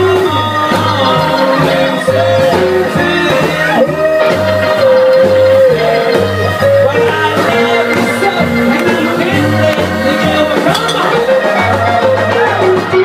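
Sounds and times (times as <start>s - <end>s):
live rock and roll band: 0.0s - 13.0s
pulsing bass: 0.0s - 13.0s
sliding lead melody: 0.0s - 13.0s.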